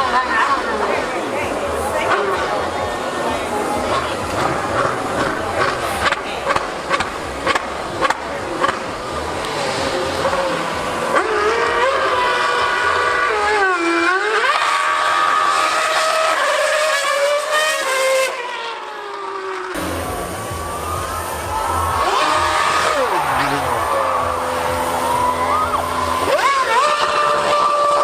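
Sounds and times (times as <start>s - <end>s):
racing car engine screaming: 0.0s - 28.0s.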